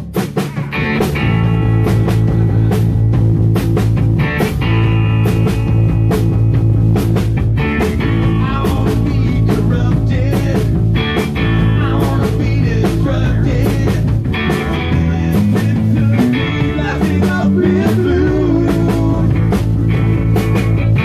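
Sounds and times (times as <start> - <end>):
drums steady beat: 0.0 - 21.0
punk rock band playing live: 0.0 - 21.0.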